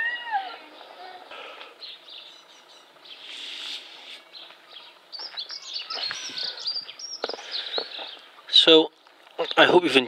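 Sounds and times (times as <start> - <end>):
small birds chirping and singing: 0.0 - 10.0.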